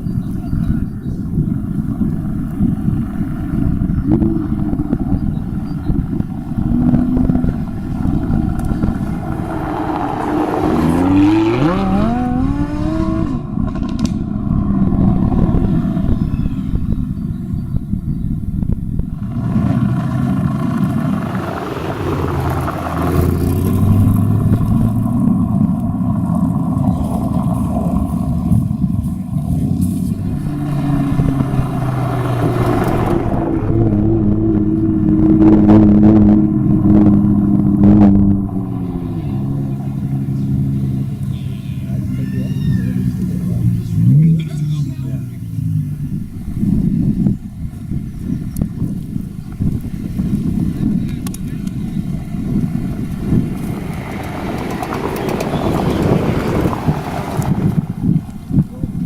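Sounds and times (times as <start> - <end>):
car engines rumbling: 0.0 - 59.0
car accelerating hard: 0.2 - 59.0.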